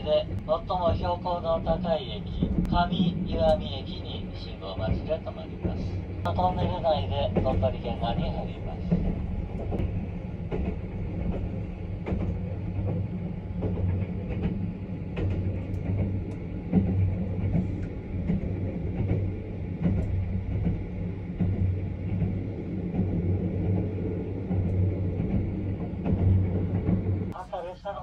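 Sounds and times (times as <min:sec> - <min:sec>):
train running inside carriage: 0:00.0 - 0:28.0.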